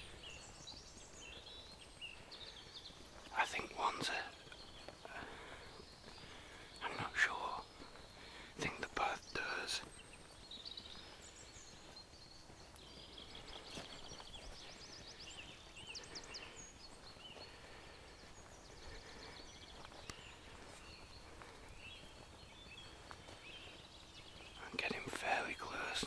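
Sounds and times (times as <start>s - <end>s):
faint songbirds chirping: 0.0s - 26.0s.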